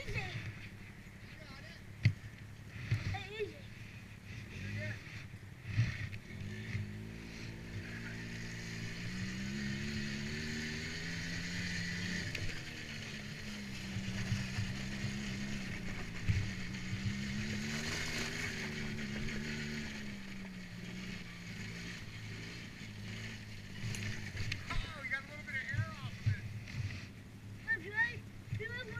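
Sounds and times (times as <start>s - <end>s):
atv engine revving: 0.0s - 28.9s.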